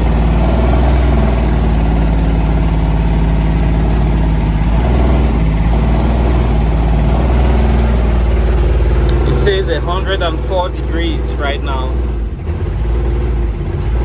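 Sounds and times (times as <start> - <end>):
small diesel engine running: 0.0 - 14.0.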